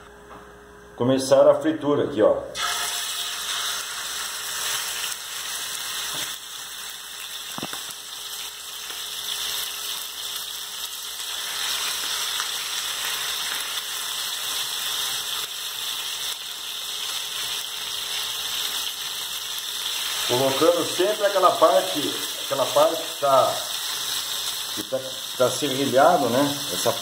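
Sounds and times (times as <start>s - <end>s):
chicken sizzling in oil: 2.6s - 27.0s.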